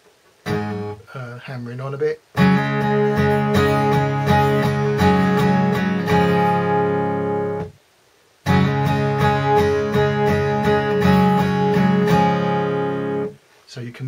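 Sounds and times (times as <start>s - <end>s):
guitar picked notes: 0.4s - 7.8s, 8.4s - 13.4s.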